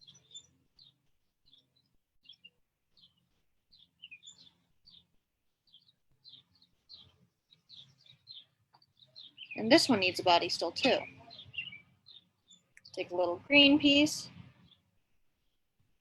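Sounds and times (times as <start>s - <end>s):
faint bird chirps: 0.0s - 5.1s, 5.7s - 14.8s.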